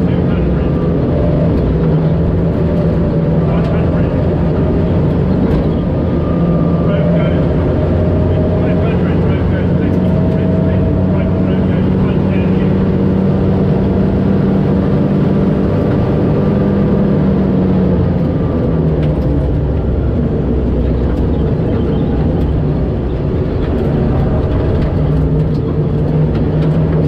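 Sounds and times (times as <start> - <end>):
rally car engine under load: 0.0 - 27.0.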